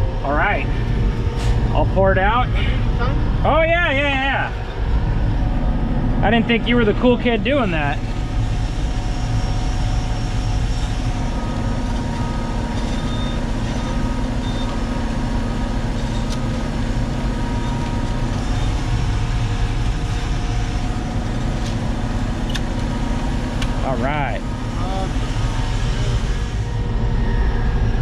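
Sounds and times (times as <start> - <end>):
concrete mixer truck running: 0.0 - 28.0.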